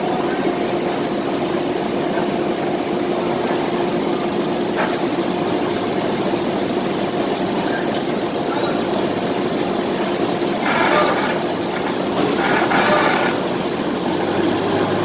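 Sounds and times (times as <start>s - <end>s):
machine running with steady hum: 0.0s - 15.0s.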